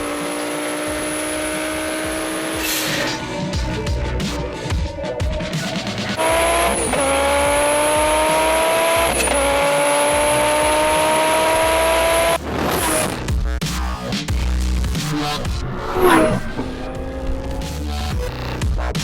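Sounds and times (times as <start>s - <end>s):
car engine accelerating hard: 0.0s - 3.6s, 6.2s - 19.0s
music: 0.0s - 19.0s.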